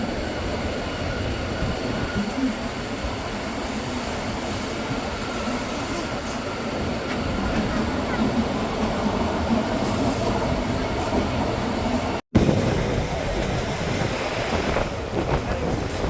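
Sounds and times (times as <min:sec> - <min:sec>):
train wheels rolling on track: 0:00.0 - 0:16.0.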